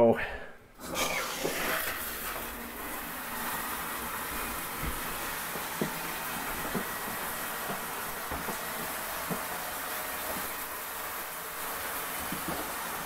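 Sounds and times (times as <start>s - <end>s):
shower spraying water: 0.8s - 13.0s.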